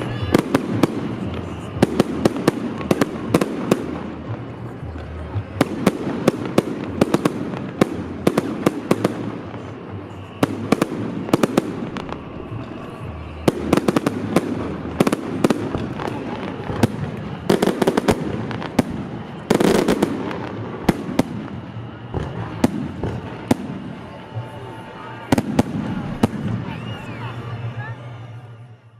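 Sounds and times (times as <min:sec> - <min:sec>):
fireworks cracks and bangs: 0:00.0 - 0:27.8.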